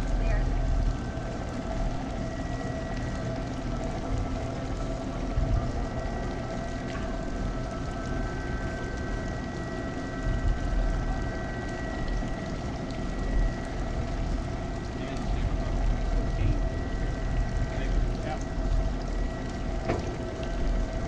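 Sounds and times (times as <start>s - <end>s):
thin steady whine: 0.0s - 21.0s
water rushing through lock: 0.0s - 21.0s.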